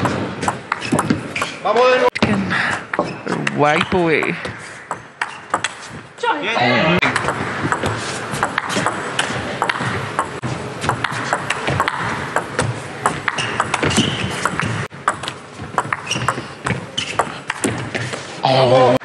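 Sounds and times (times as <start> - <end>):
table tennis rally: 0.0 - 19.0.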